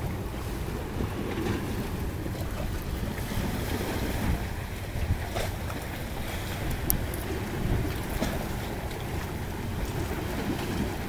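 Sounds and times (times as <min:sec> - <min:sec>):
waves washing onto pebbles: 0:00.0 - 0:11.0
wind buffeting microphone: 0:00.0 - 0:11.0.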